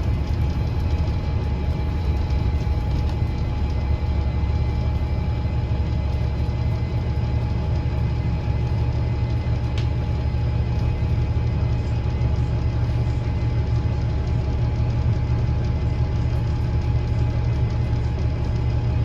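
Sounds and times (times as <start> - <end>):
bus interior low drone: 0.0 - 19.0
steady whining tone: 0.0 - 19.0.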